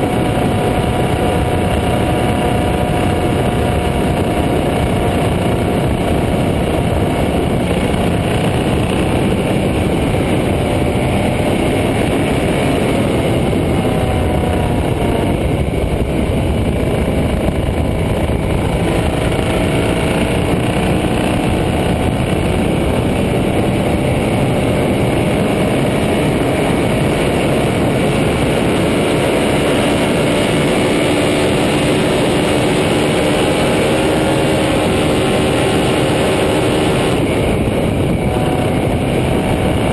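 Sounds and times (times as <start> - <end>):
dense rush of noise: 0.0 - 39.9
motorcycle engine running: 0.0 - 39.9.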